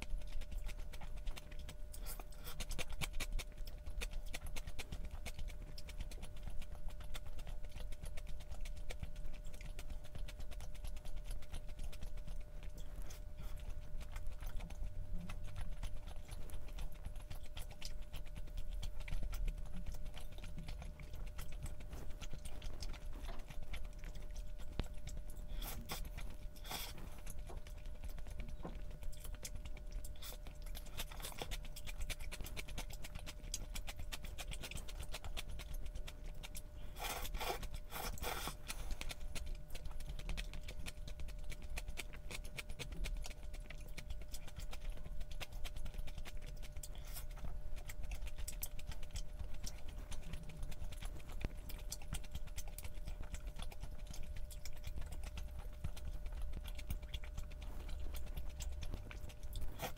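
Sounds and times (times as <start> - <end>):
close chewing and mouth sounds: 0.0 - 59.9
faint steady hum: 0.0 - 59.9.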